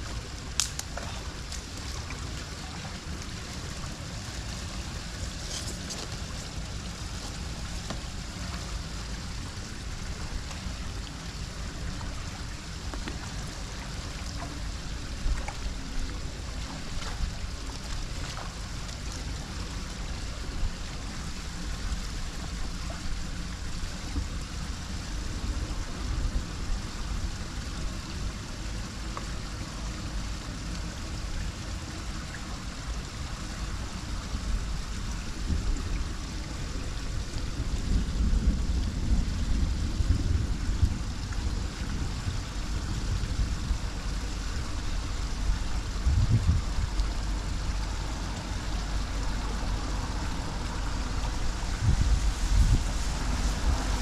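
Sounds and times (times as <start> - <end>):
deep rumble: 0.0 - 54.0
water rushing into storm drain: 0.0 - 54.0.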